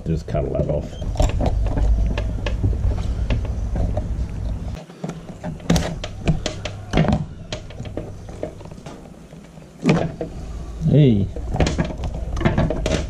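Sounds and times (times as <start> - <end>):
dull thunks: 1.0 - 9.0, 9.8 - 13.0.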